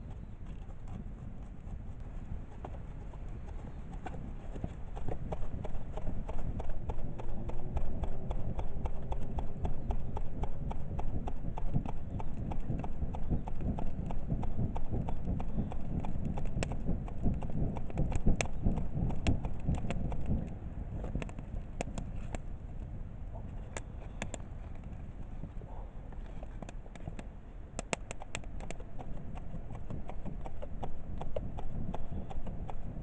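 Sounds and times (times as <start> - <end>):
low fire rumble: 0.0 - 33.0.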